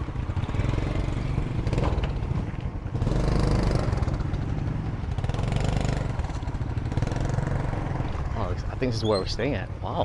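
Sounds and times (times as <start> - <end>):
motorbike engine running: 0.0 - 8.4.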